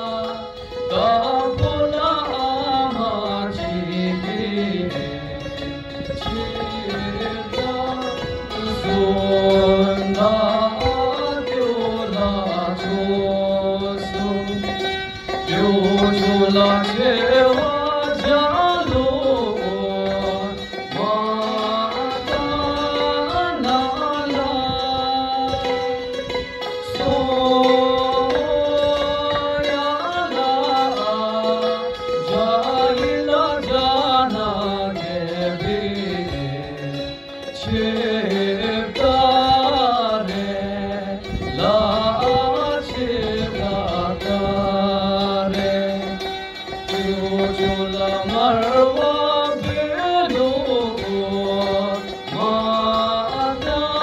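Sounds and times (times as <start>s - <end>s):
instrumental accompaniment: 0.0s - 54.0s
man singing into microphone: 0.0s - 54.0s.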